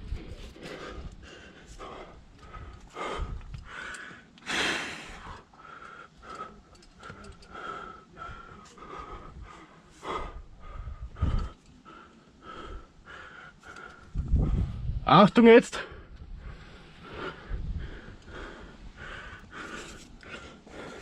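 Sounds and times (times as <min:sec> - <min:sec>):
person breathing hard: 0:00.5 - 0:14.9, 0:15.9 - 0:21.0.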